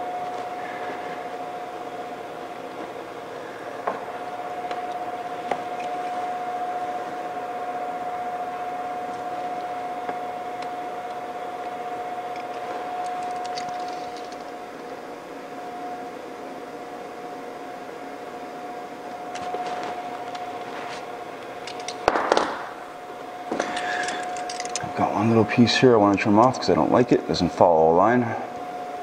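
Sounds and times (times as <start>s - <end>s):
fan whining: 0.0s - 29.0s.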